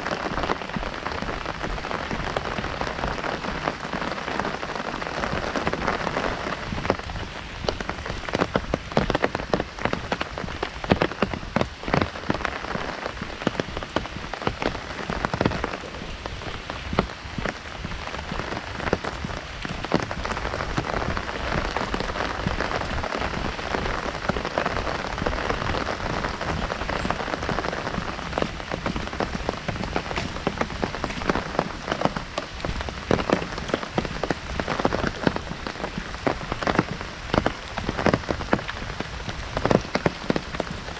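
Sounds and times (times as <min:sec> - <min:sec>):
heavy rain on an umbrella: 0:00.0 - 0:40.9.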